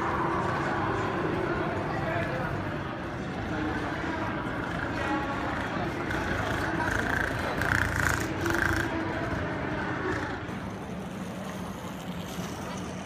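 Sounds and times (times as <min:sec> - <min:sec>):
railway platform ambience: 0:00.0 - 0:13.0.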